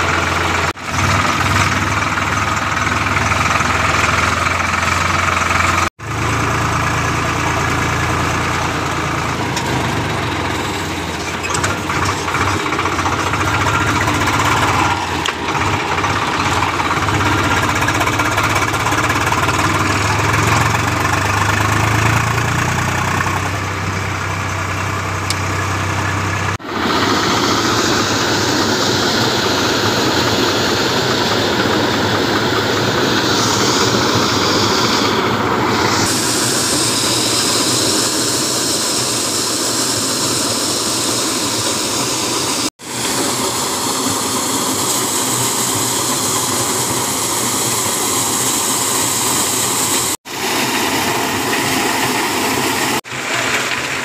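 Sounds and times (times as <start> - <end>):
tractor engine: 0.0 - 54.0.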